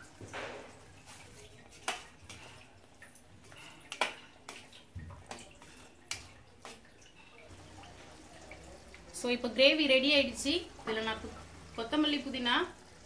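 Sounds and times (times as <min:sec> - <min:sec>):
curry bubbling: 0:00.0 - 0:13.0.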